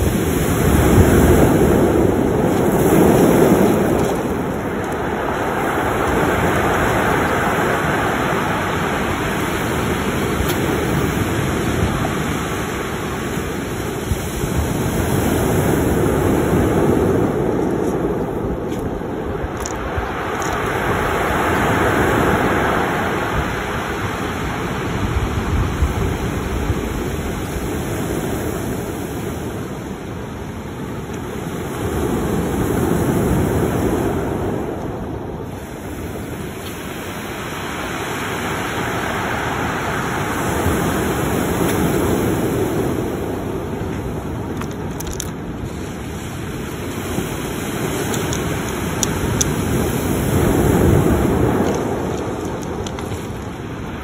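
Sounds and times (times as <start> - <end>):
surf washing up cobble beach: 0.0 - 54.0.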